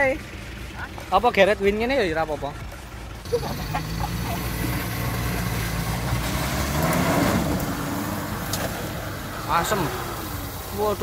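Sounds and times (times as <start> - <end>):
suv engine revving: 0.0 - 11.0.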